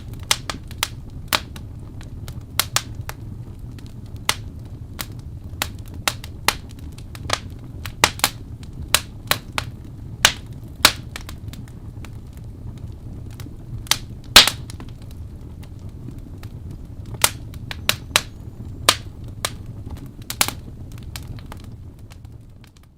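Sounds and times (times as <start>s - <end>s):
campfire crackling: 0.0s - 22.9s.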